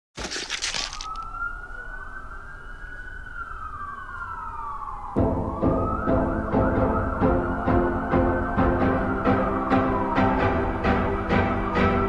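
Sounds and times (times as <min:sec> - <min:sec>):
siren-like wail: 0:00.6 - 0:12.0.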